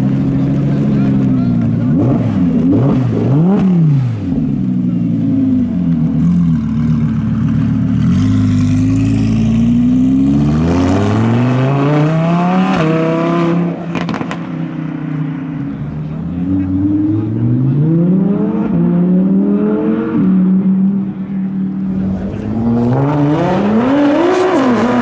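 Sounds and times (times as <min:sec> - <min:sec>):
car engine revving: 0:00.2 - 0:14.4, 0:15.6 - 0:25.0.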